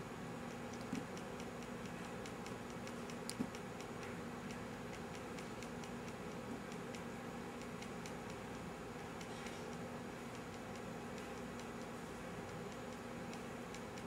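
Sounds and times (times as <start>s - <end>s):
steady low hum: 0.0s - 14.0s
rapid even ticking: 0.4s - 14.0s.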